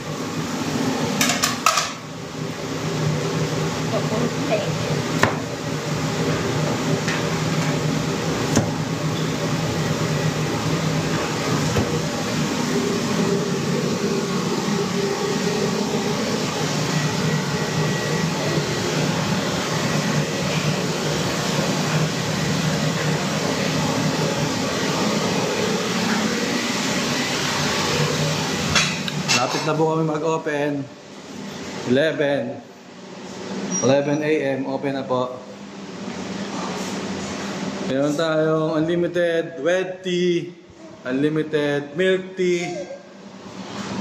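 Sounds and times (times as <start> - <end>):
ventilation fan hum: 0.0 - 44.0.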